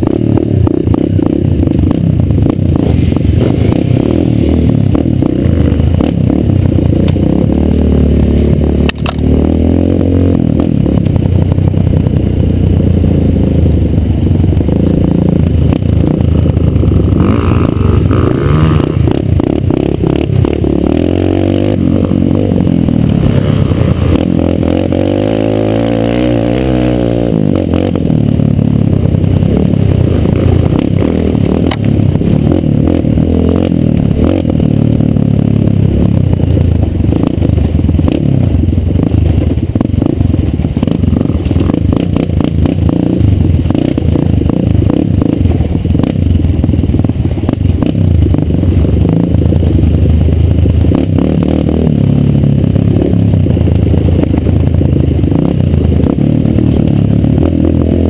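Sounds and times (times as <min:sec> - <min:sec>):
bike rattling: 0:00.0 - 0:58.0
dirt bike engine revving: 0:00.0 - 0:58.0.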